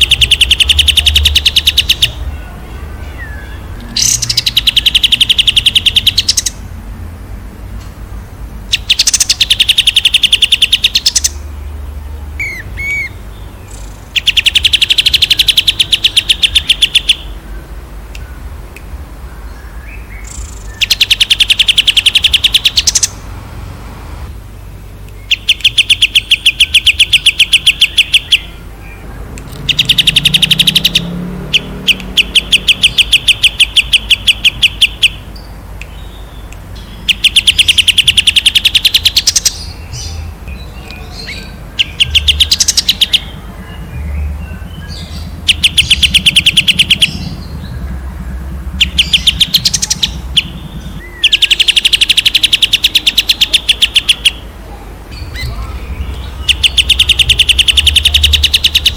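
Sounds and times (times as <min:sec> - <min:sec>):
songbird trilling: 0:00.0 - 0:06.7, 0:08.6 - 0:11.8, 0:12.4 - 0:18.4, 0:19.2 - 0:23.3, 0:24.6 - 0:58.9.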